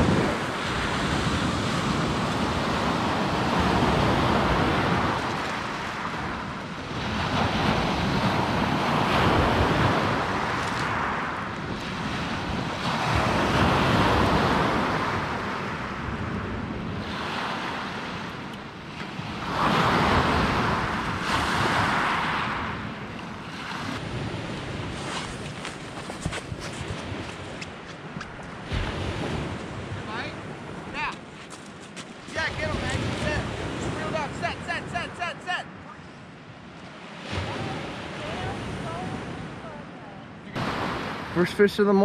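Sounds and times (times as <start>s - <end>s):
waves washing up pebble beach: 0.0s - 18.5s, 19.1s - 34.9s, 40.6s - 41.5s.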